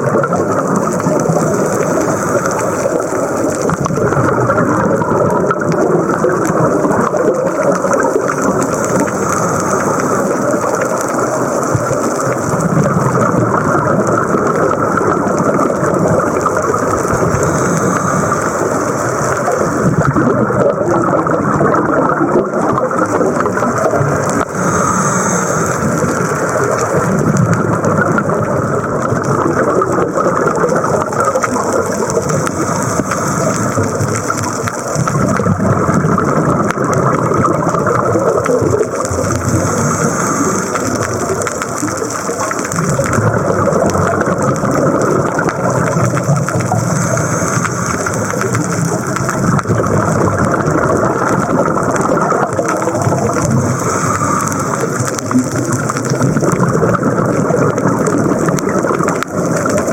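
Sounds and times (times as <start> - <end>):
muffled underwater rushing: 0.0 - 59.9.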